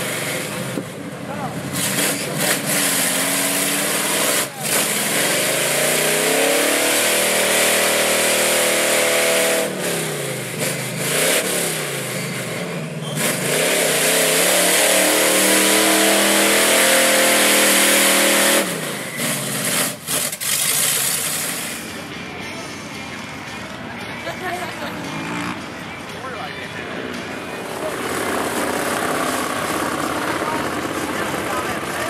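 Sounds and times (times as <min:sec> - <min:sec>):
truck engine revving hard: 0:00.0 - 0:22.0, 0:27.1 - 0:32.0
tires churning in mud: 0:00.0 - 0:22.1, 0:26.9 - 0:32.0.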